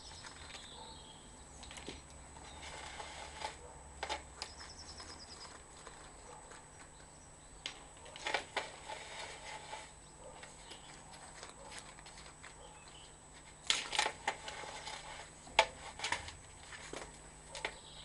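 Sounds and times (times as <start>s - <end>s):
faint equipment whine: 0.0s - 18.0s.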